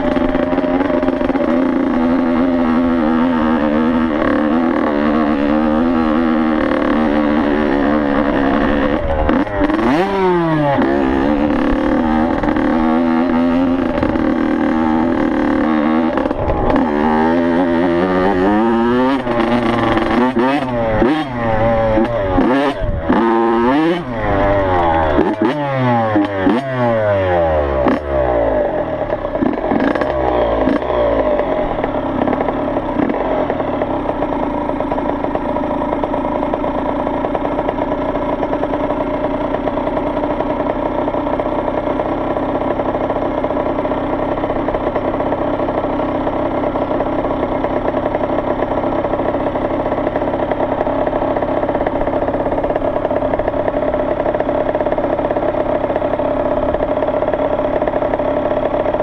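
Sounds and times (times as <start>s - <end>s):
dirt bike engine revving and idling: 0.0s - 59.0s.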